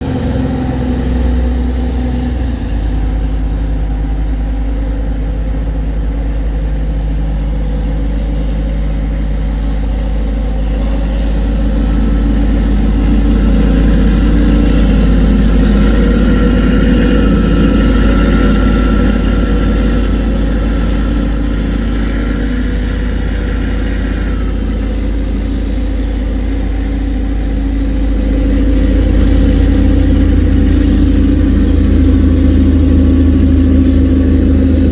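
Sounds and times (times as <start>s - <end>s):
boat diesel engine droning: 0.0s - 34.9s.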